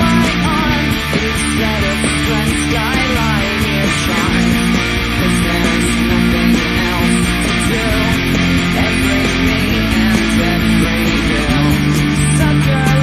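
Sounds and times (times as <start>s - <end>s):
distorted electric guitar riff: 0.0s - 13.0s.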